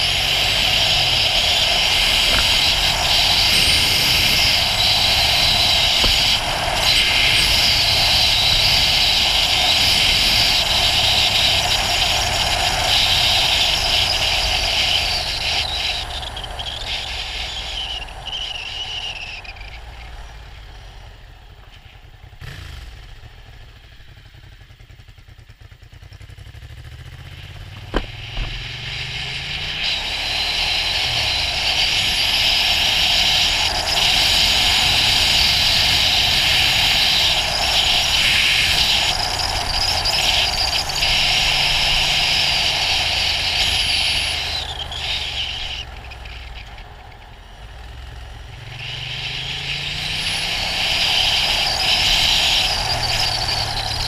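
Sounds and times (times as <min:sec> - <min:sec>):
wind and road hiss: 0:00.0 - 0:25.8, 0:26.4 - 0:54.0
motorcycle engine: 0:00.0 - 0:54.0.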